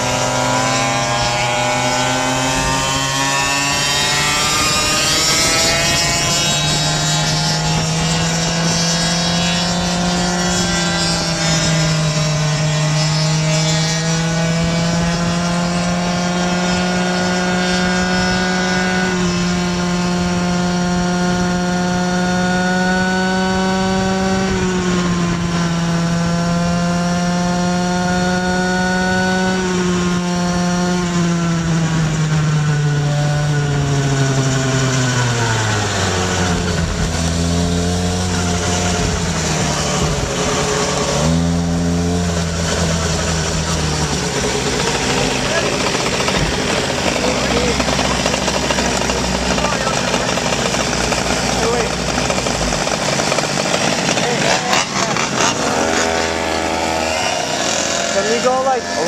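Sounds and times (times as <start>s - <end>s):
scooter engine revving: 0.0s - 59.0s.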